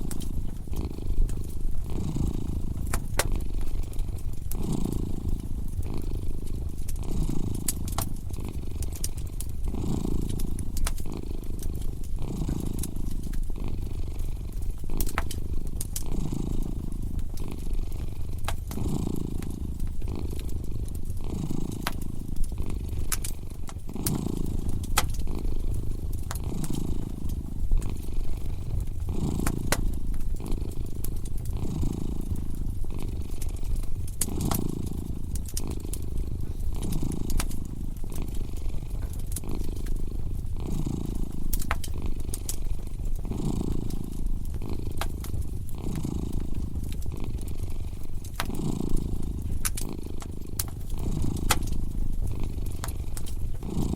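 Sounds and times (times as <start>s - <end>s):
cat purring: 0.0s - 53.9s
wood fire crackling and popping: 0.0s - 53.9s.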